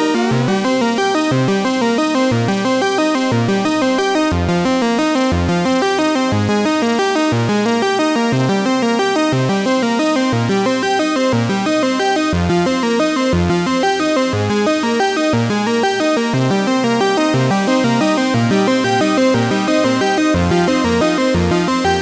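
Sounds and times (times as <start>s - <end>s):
electronic synthesizer music: 0.1s - 22.0s.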